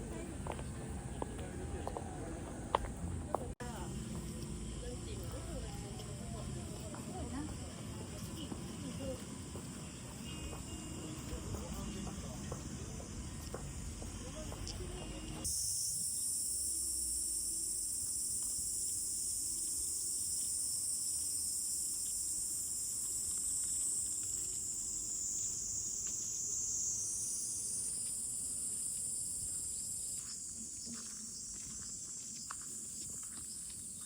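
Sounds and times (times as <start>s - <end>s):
cicadas buzzing: 0.0s - 34.0s.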